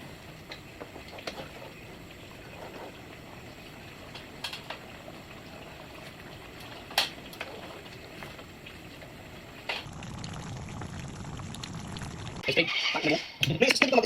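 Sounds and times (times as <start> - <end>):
food bubbling in a pan: 0.0 - 12.5.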